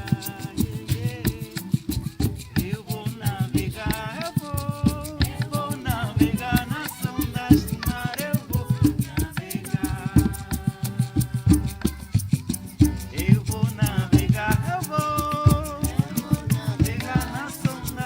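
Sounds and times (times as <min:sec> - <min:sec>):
person singing: 0:00.0 - 0:18.0
rhythmic percussion: 0:00.0 - 0:18.0.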